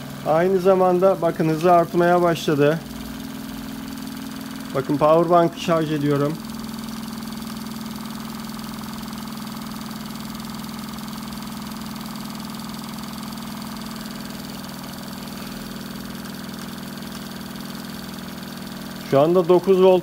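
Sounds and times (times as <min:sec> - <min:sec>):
stirling engine mechanical hum: 0:00.0 - 0:20.0.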